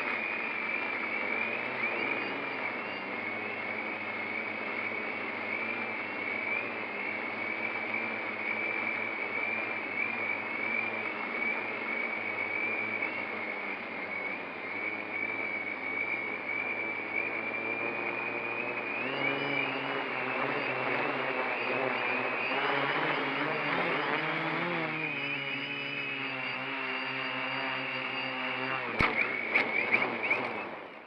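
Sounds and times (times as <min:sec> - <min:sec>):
quadcopter propellers whining: 0:00.0 - 0:31.0.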